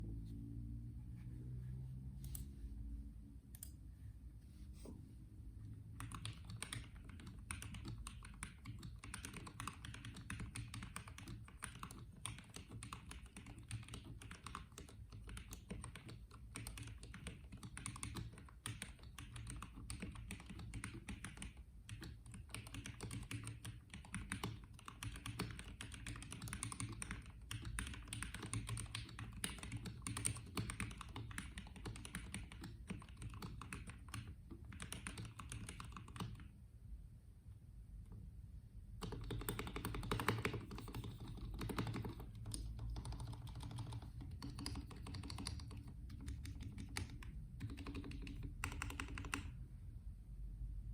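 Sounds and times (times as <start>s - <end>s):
fast typing on mechanical keyboard: 6.0s - 36.5s, 39.0s - 49.6s.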